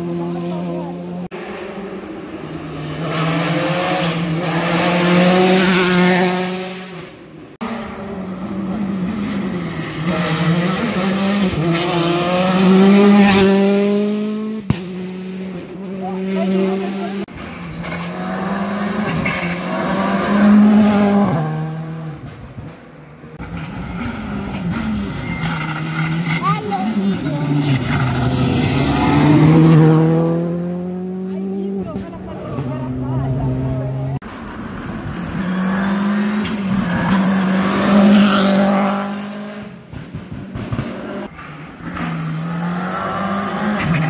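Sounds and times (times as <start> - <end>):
rally car engine passing: 0.0 - 44.0.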